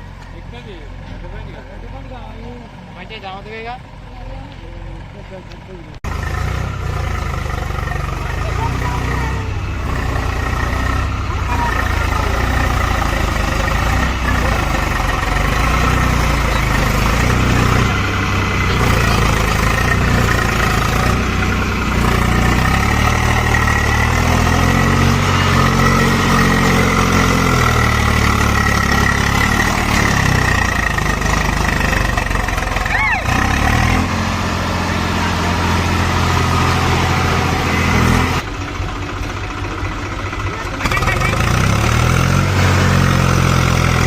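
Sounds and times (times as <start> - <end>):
tractor diesel engine revving: 0.0 - 44.0.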